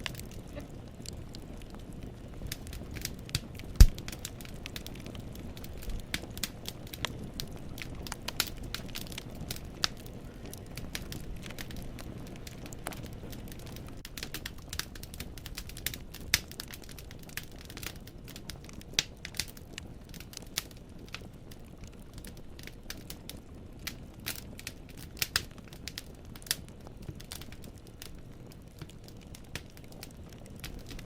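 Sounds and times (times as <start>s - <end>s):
burning logs popping and snapping: 0.0s - 31.0s
low rumble of flames: 0.0s - 31.0s.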